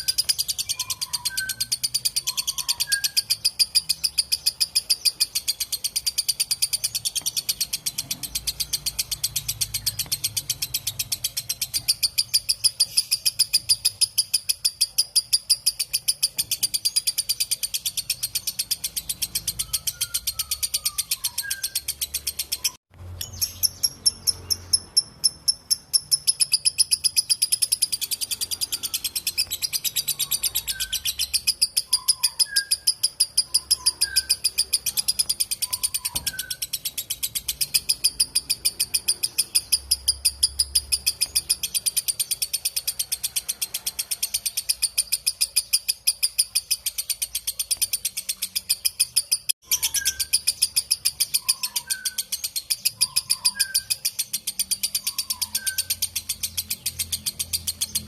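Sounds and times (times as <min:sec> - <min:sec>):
lovebird chattering: 0:00.0 - 0:58.0.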